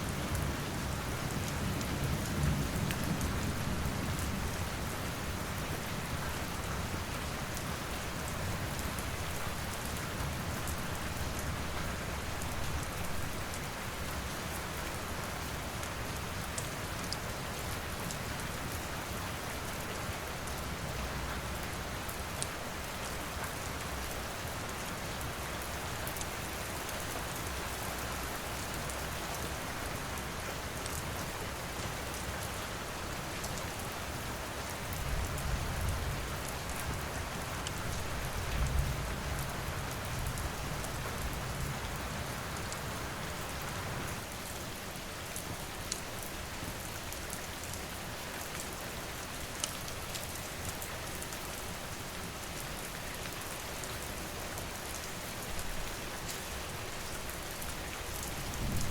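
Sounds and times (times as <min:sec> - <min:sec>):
rain pouring: 0:00.0 - 0:58.9.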